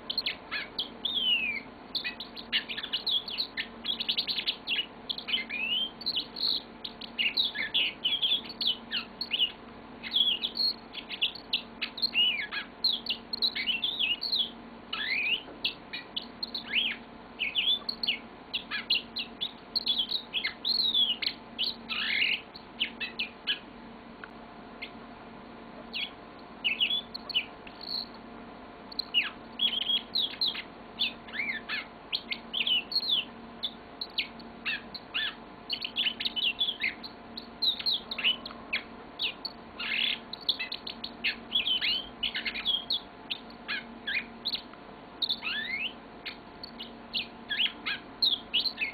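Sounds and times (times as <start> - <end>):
canary singing: 0.0 - 25.1, 25.8 - 48.9.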